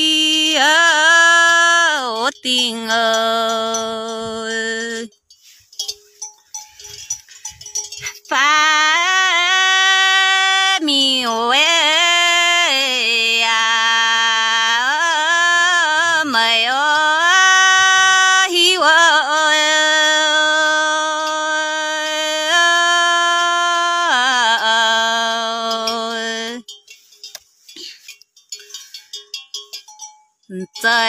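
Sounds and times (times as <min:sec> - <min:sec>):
woman singing folk song: 0:00.0 - 0:05.7, 0:06.7 - 0:26.7, 0:30.5 - 0:31.0.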